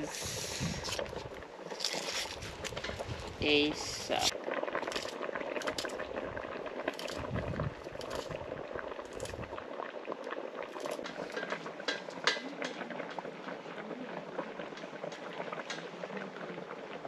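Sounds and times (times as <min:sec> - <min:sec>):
sauce bubbling in a pot: 0:00.0 - 0:17.0.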